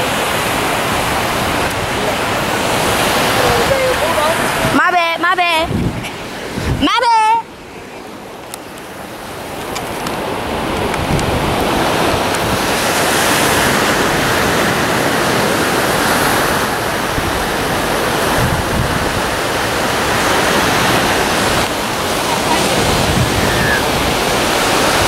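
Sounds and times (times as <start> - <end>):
wind on microphone: 0.0 - 7.1, 9.2 - 25.0
ocean surf washing onto beach: 0.0 - 25.0.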